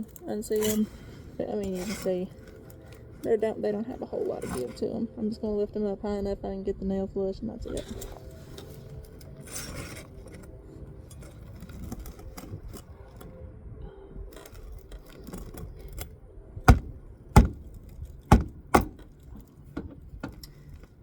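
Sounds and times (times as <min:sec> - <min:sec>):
handling and scraping: 0:00.0 - 0:05.1, 0:07.6 - 0:13.4, 0:14.3 - 0:21.0.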